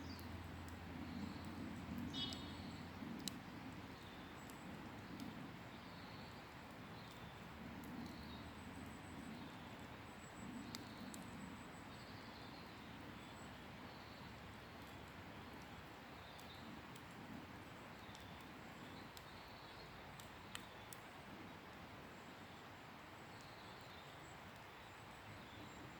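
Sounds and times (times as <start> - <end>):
campfire crackling and popping: 0.0 - 23.5, 24.2 - 25.9.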